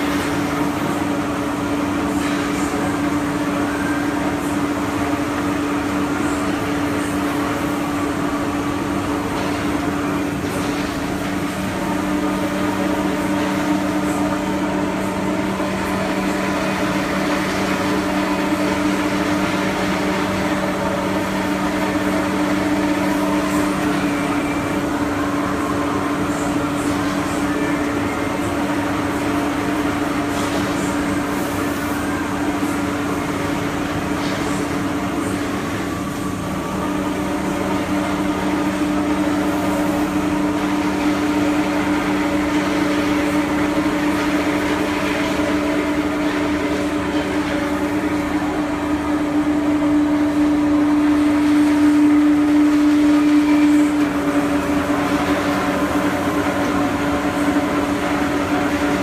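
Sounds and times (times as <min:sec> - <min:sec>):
machine humming and whirring: 0:00.0 - 0:59.0.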